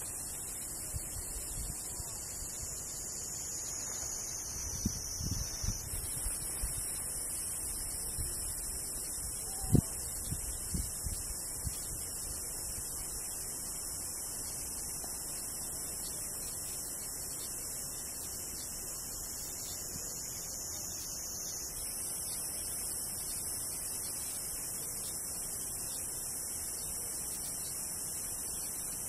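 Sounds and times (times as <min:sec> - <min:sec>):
cicada buzzing: 0:00.0 - 0:29.0.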